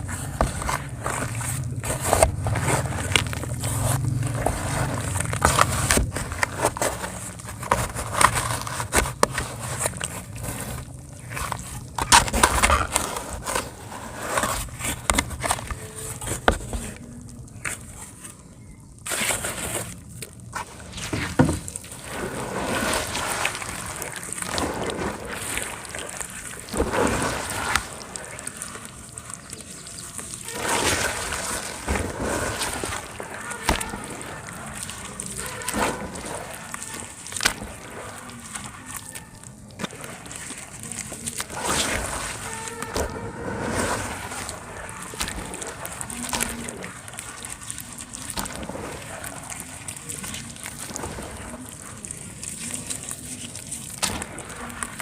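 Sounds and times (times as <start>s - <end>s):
crackles and scrapes: 0.0s - 55.0s
dry cement crumbling and crunching: 0.0s - 55.0s.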